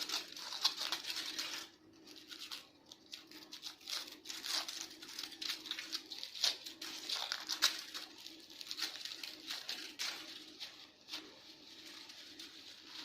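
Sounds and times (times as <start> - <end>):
faint low hum: 0.0 - 13.0
foil crinkling and tearing: 0.0 - 13.0.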